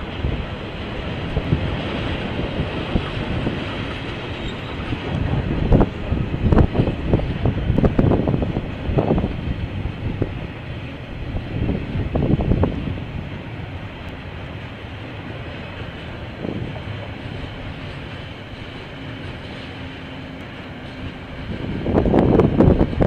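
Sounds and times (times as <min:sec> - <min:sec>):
train rushing rumble: 0:00.0 - 0:23.0
train wheels clattering over rail joints: 0:00.0 - 0:23.0.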